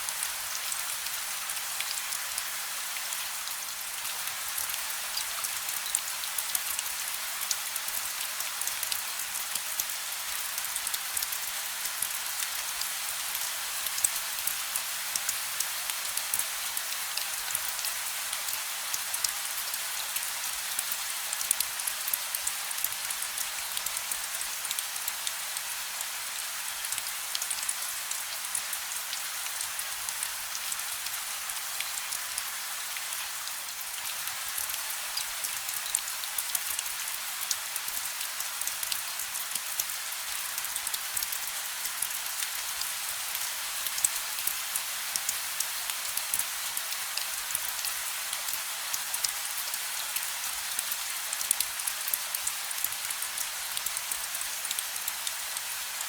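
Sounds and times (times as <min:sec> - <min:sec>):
gentle rain: 0:00.0 - 0:56.0.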